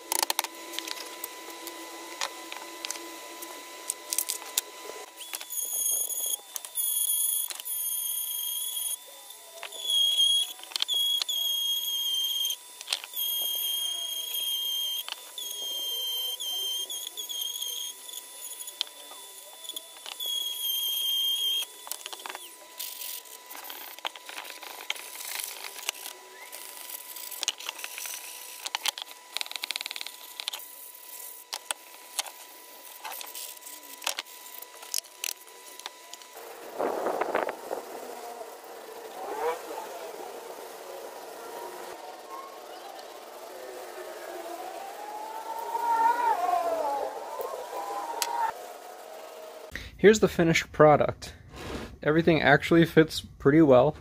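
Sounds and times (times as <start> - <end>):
rotary tool whining: 0.0 - 49.8.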